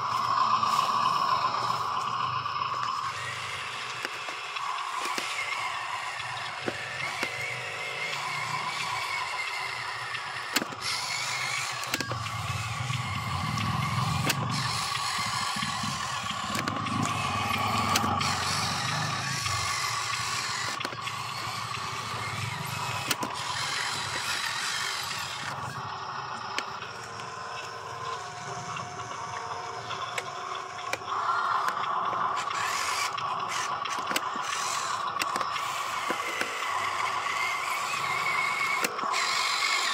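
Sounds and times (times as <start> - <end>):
electric motor whining: 0.0 - 39.9
sharp clicks: 0.3 - 39.9.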